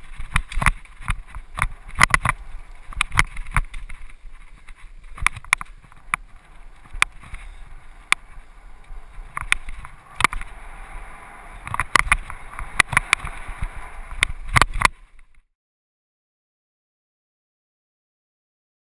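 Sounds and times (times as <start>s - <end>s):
bike rattling over bumps: 0.0s - 15.4s
wind rumble on microphone: 0.0s - 15.4s
bike tyre and trail noise: 0.0s - 15.5s.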